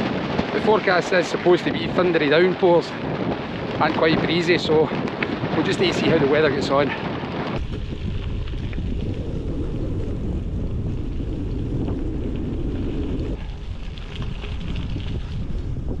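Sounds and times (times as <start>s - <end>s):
tyres crunching over gravel: 0.0s - 16.0s
wind buffeting microphone: 0.0s - 16.0s.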